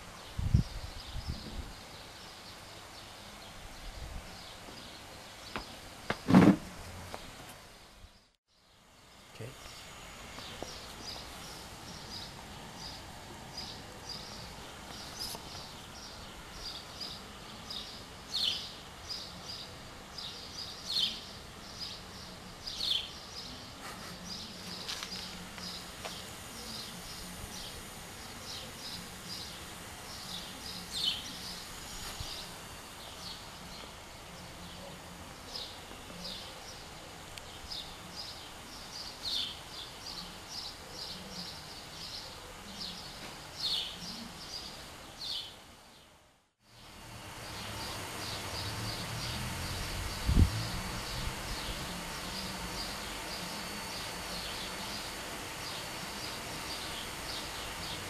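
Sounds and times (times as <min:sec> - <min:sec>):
outdoor background noise: 0:00.0 - 0:58.0
small birds chirping: 0:08.1 - 0:46.0, 0:46.7 - 0:58.0.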